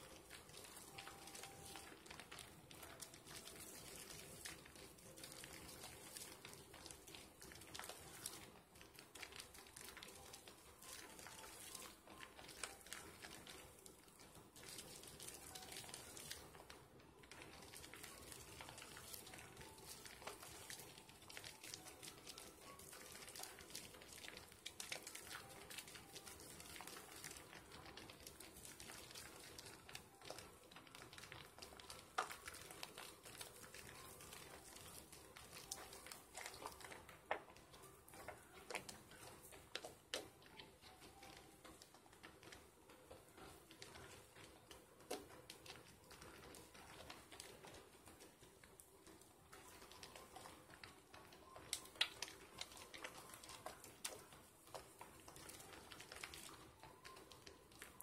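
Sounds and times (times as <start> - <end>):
soap lather squishing: 0.0 - 58.0.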